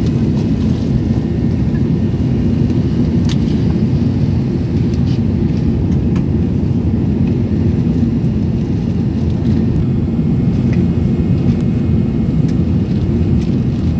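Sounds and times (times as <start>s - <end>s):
jet engines rumbling: 0.0s - 13.9s.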